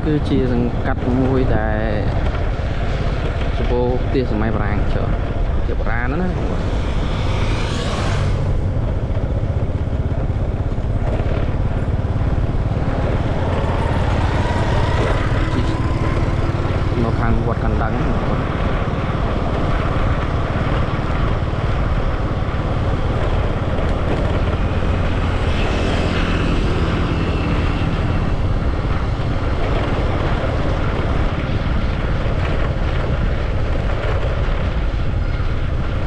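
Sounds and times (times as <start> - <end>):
vehicle rumble: 0.0 - 36.0
wind buffeting microphone: 0.0 - 36.0.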